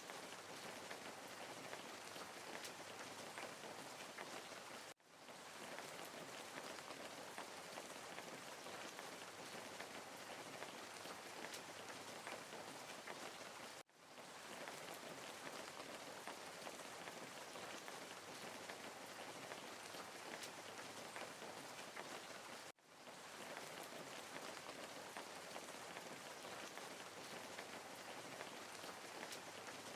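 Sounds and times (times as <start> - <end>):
rain pattering: 0.0 - 29.9.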